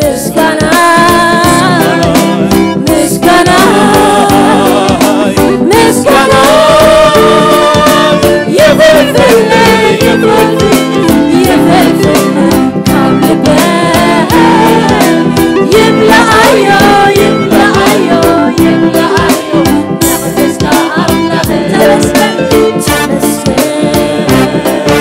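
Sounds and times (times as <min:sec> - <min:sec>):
electronic keyboard with beat: 0:00.0 - 0:25.0
gospel choir singing: 0:00.0 - 0:25.0
woman singing lead: 0:00.0 - 0:25.0.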